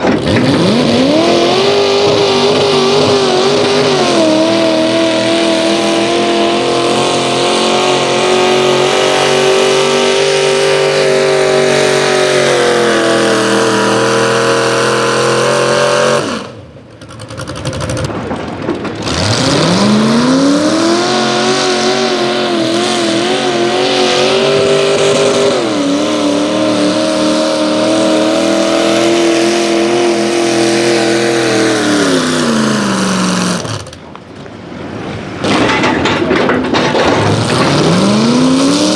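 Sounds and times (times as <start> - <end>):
engine at full throttle: 0.0 - 38.9.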